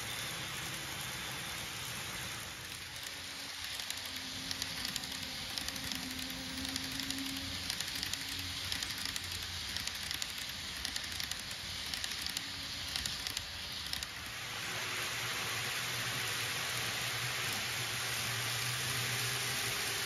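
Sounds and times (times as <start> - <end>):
model train wheels clicking on rails: 0.0 - 20.0.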